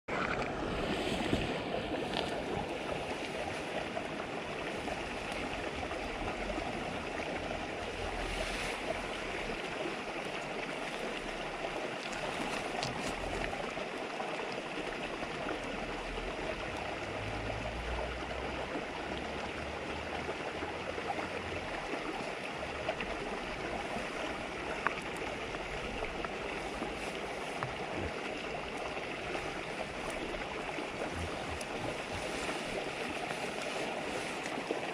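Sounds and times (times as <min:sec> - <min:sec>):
river babbling over stones: 0:00.1 - 0:34.9.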